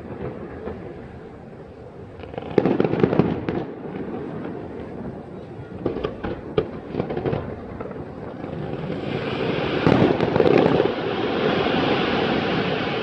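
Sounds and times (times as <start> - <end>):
fireworks bursting: 0.0 - 13.0
fireworks crackling hiss: 0.0 - 13.0.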